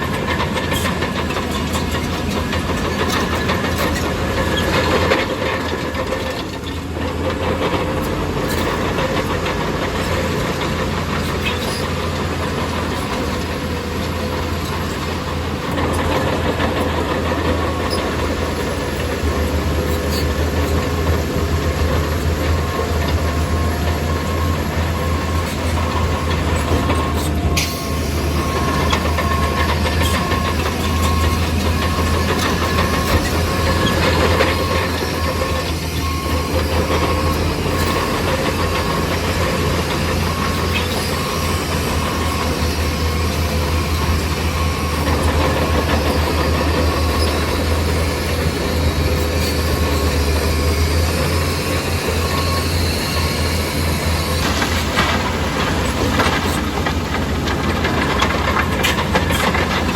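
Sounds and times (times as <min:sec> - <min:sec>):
diesel engine under load: 0:00.0 - 0:59.9
steel tracks clattering: 0:00.0 - 0:59.9.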